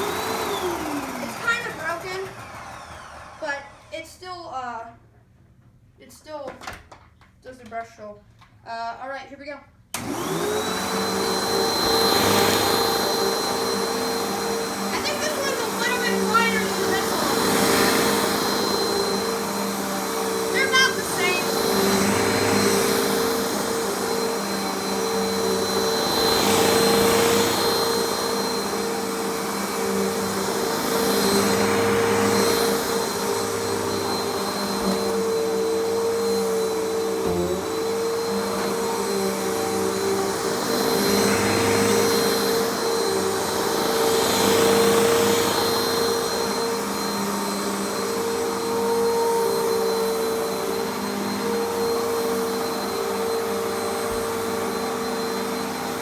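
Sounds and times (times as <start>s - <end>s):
vacuum cleaner motor hum: 0.0s - 4.1s, 10.0s - 56.0s.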